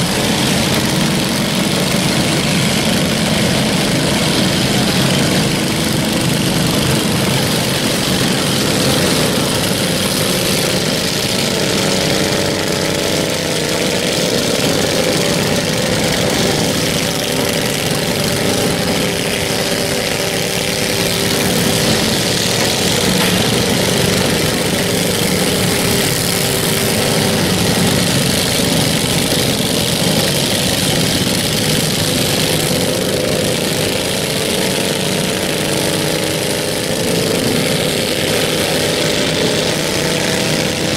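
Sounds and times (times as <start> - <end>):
riding lawn mower engines: 0.0 - 40.9.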